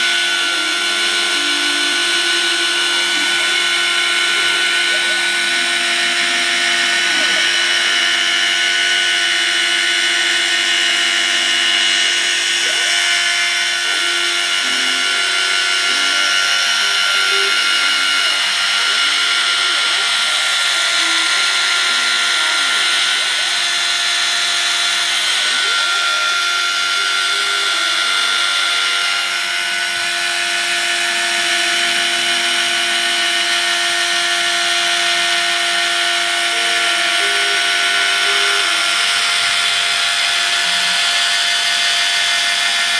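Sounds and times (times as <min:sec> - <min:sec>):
axis motor tones: 0:00.0 - 0:42.9
milling machine spindle whine: 0:00.0 - 0:42.9.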